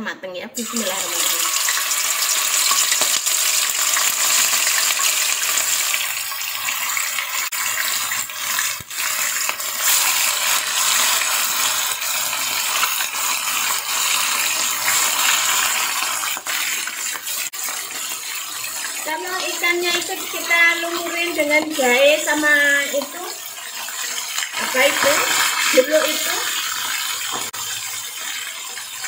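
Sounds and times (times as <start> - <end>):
fish sizzling in hot oil: 0.6 - 29.0
oil crackling: 0.6 - 29.0.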